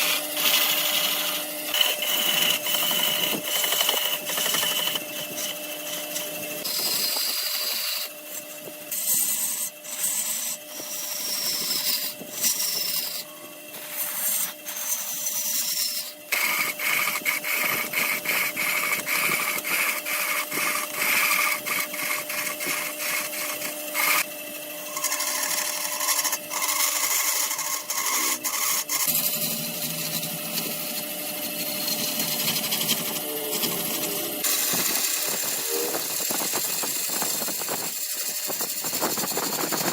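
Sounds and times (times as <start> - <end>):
turning tool scraping wood: 0.0 - 39.9
wood lathe motor hum: 0.0 - 39.9.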